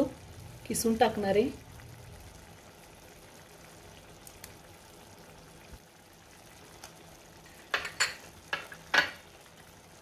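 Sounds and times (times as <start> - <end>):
thick food bubbling in pan: 0.0 - 10.0.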